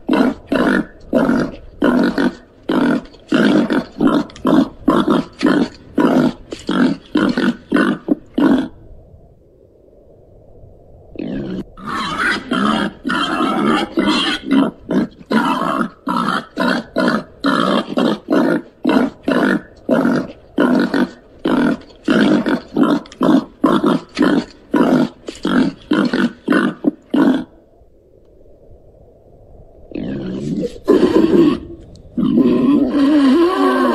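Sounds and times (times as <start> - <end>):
pig-like animal grunting: 0.0 - 8.8, 11.2 - 27.6, 29.9 - 33.9.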